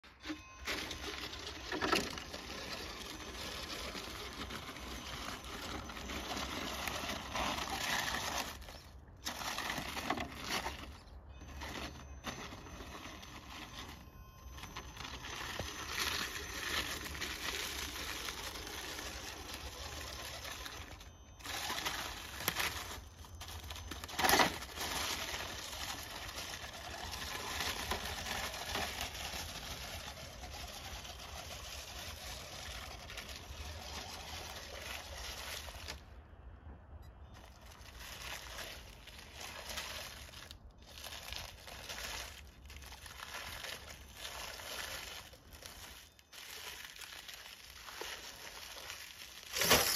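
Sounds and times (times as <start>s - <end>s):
tyres crunching over rocks: 0.0s - 36.2s, 37.1s - 49.9s.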